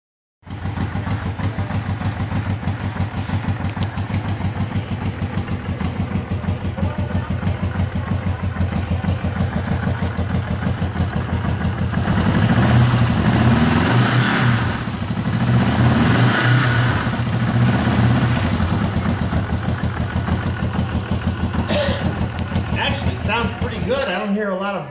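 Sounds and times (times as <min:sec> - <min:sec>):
motorcycle engine idling and revving: 0:00.4 - 0:24.6.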